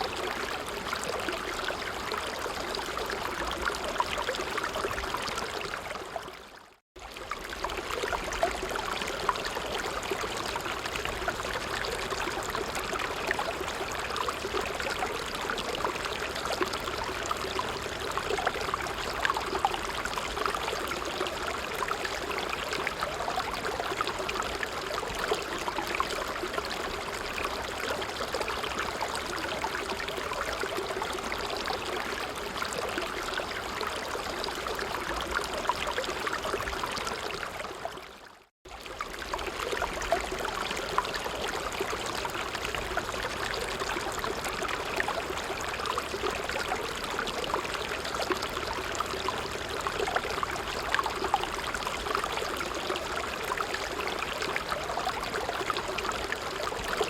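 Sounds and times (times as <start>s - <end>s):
brook running over stones: 0.0s - 57.0s.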